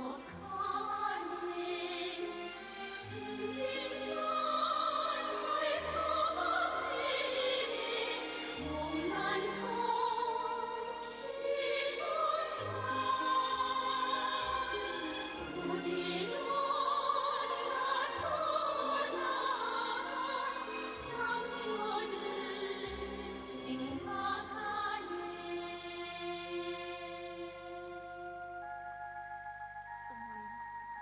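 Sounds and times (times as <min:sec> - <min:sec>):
operatic orchestral music: 0:00.0 - 0:28.8.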